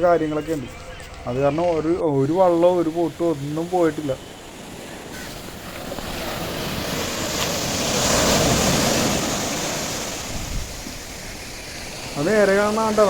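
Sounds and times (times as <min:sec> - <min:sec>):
sea wave breaking: 0:01.3 - 0:13.0.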